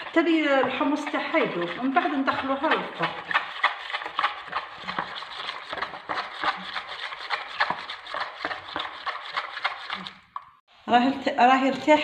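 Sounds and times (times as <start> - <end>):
wire whisk beating batter: 0.0 - 10.5.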